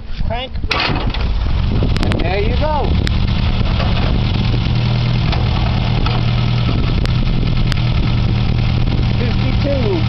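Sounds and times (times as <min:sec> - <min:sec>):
car engine idling: 0:01.0 - 0:10.0.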